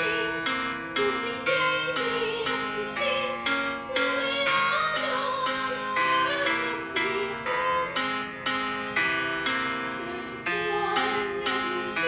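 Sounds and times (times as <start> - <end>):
woman singing classical ballad: 0.0 - 8.6, 9.4 - 12.0
piano chords: 0.0 - 12.0.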